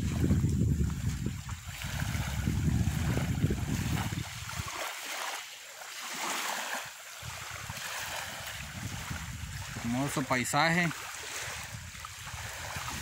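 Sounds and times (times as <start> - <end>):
wind buffeting microphone: 0.0 - 4.9, 6.7 - 13.0
small waves lapping: 0.0 - 13.0.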